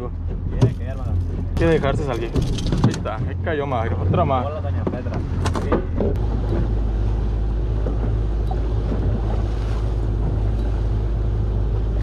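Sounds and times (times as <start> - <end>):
outboard motor running: 0.0 - 12.0
sea washing past hull: 0.0 - 12.0
wind rumbling on microphone: 0.0 - 12.0.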